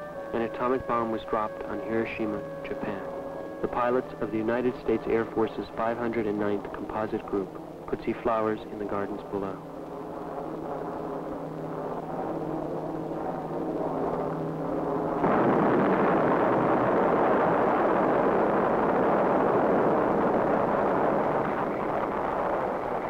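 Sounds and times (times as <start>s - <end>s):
propeller aircraft engines droning: 0.0s - 23.0s
huge explosion rumble: 0.3s - 23.0s.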